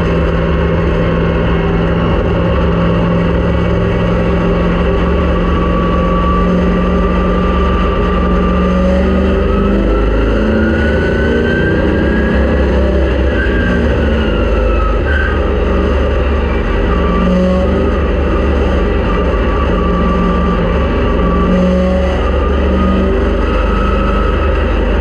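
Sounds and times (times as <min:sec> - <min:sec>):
race car engine: 0:00.0 - 0:25.0.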